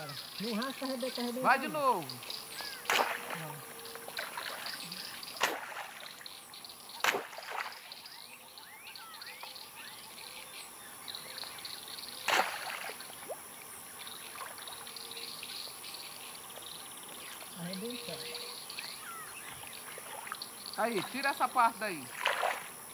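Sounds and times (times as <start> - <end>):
birds chirping: 0.0 - 22.9
water trickling: 0.0 - 22.9.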